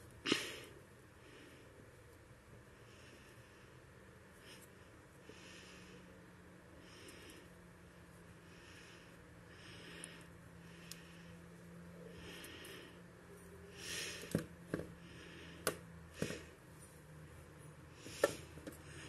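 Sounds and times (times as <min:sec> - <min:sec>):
soft breathing: 0:00.2 - 0:19.0.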